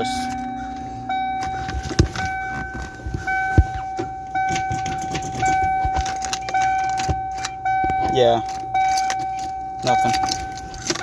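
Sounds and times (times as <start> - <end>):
car warning chime: 0.0 - 11.0
ignition clicks: 0.0 - 11.0
keys jingling: 1.4 - 11.0.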